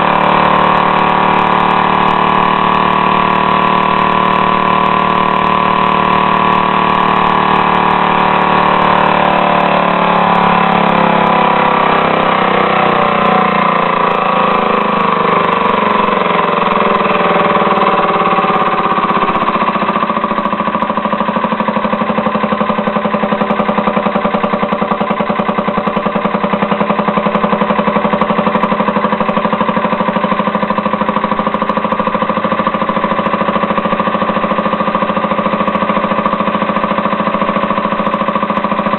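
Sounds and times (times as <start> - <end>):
air-powered engine running: 0.0 - 38.9.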